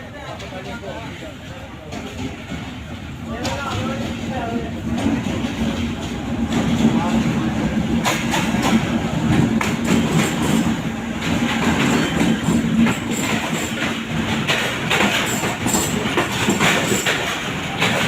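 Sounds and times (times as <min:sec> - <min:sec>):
train wheels clattering: 0:00.2 - 0:18.0.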